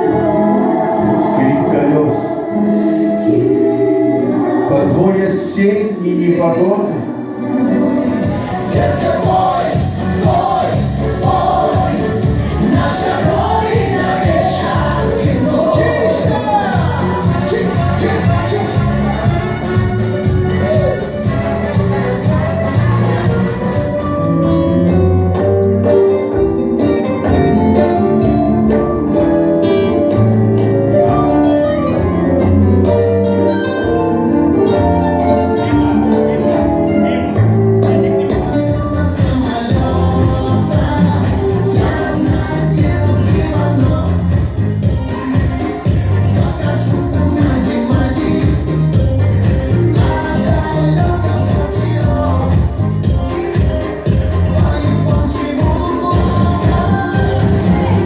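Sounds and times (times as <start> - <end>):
instrumental background music: 0.0 - 58.0
song with singing and beat: 0.0 - 58.0.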